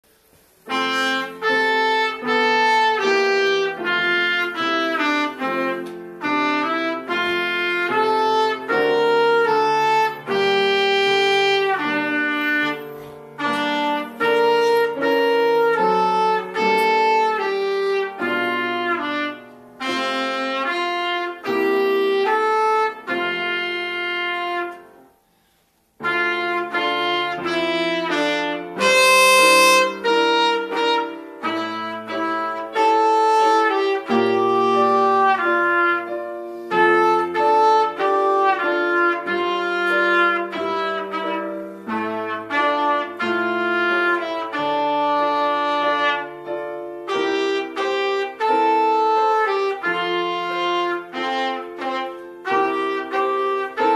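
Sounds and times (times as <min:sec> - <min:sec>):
grand piano accompaniment: 0:00.0 - 0:53.9
trumpet melody: 0:00.1 - 0:53.9.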